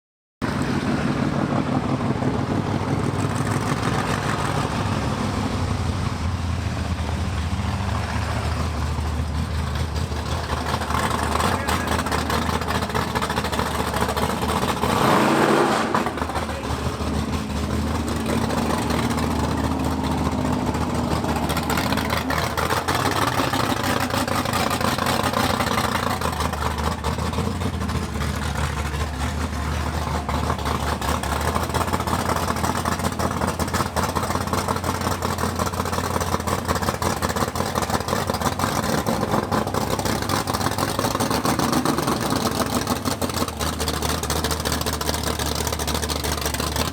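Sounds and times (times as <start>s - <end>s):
car engine idling with lope: 0.4s - 46.9s.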